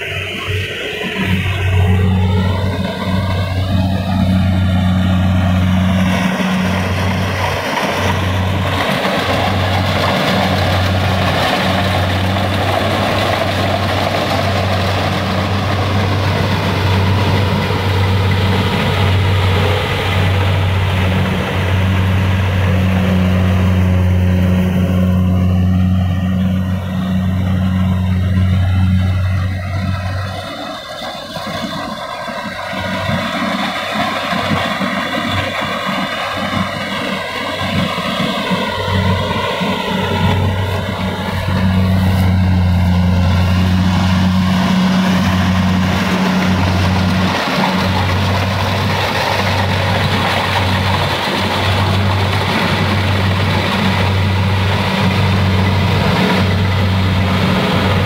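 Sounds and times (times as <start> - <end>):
combine harvester running: 0.0 - 58.0
deep machinery hum: 0.0 - 58.0.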